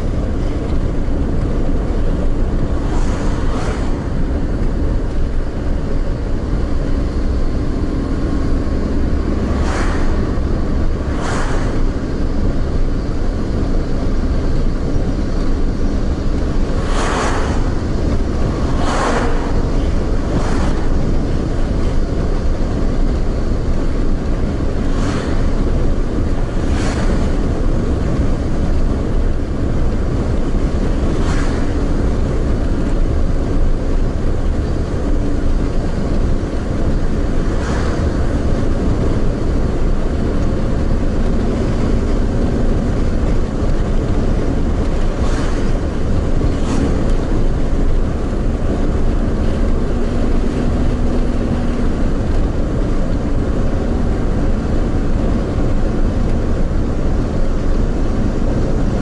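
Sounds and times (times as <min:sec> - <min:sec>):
car road and engine rumble: 0:00.0 - 0:59.0
passing vehicles whooshing: 0:00.0 - 0:59.0.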